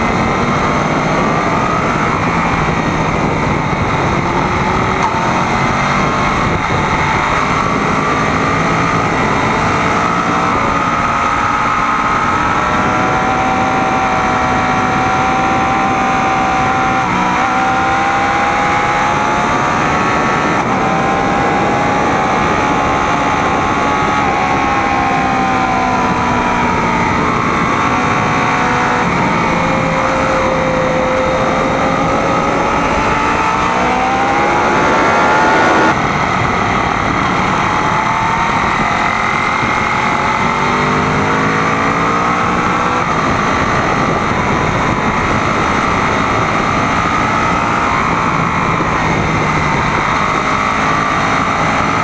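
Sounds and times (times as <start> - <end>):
motorcycle engine at speed: 0.0 - 52.0.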